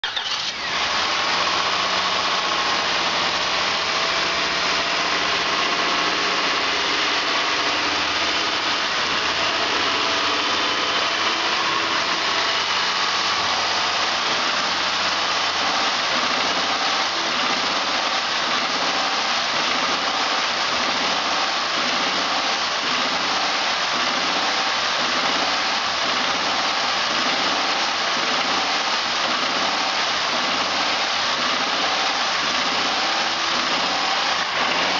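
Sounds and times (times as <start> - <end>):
engine running with mechanical clatter: 0.0 - 34.9.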